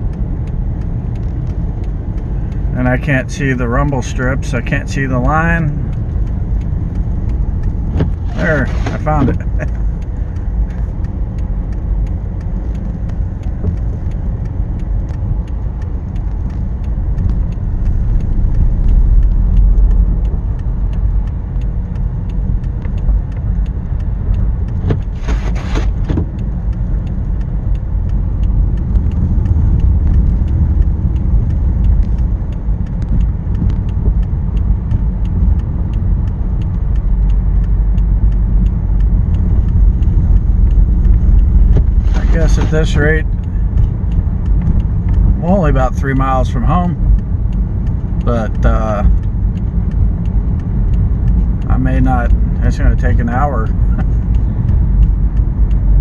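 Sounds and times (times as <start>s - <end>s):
faint ticking: 0.0s - 56.0s
vehicle rumbling through snow: 0.0s - 56.0s.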